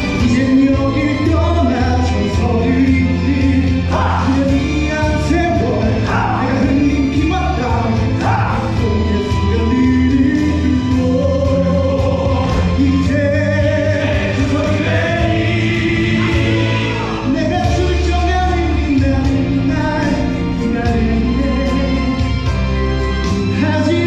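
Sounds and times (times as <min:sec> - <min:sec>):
instrumental accompaniment with beat: 0:00.0 - 0:24.0
men singing together: 0:00.3 - 0:22.0.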